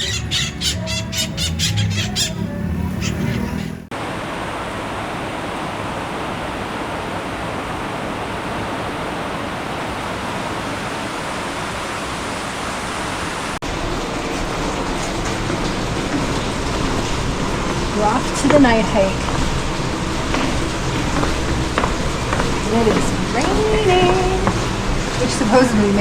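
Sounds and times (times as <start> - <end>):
heavy rain falling: 4.0 - 26.0.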